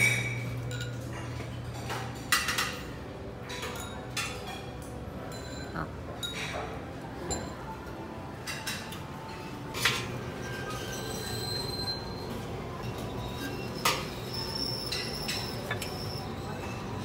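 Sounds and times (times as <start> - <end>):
metal tongs clinking on plates: 0.0 - 11.5, 12.8 - 17.0
dining room hum: 0.0 - 17.0.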